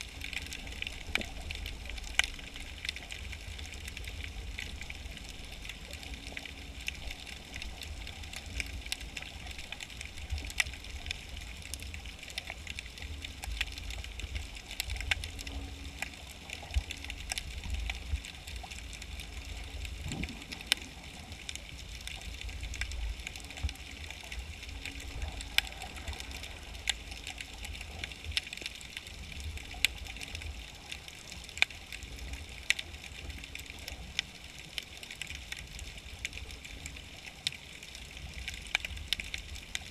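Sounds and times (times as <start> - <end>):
faint broken hum: 0.0 - 39.9
underwater rumble and hiss: 0.0 - 39.9.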